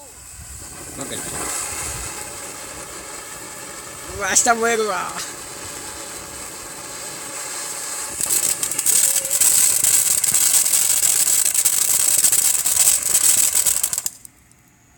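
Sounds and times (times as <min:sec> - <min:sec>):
firework hissing and crackling: 0:00.0 - 0:14.5.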